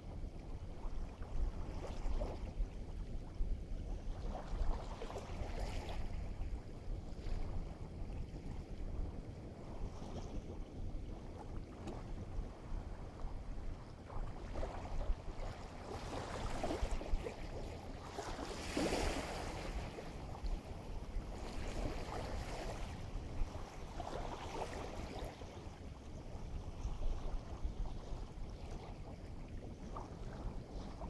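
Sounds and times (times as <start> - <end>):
wind rumble on microphone: 0.0 - 31.0
small waves washing ashore: 0.6 - 31.0.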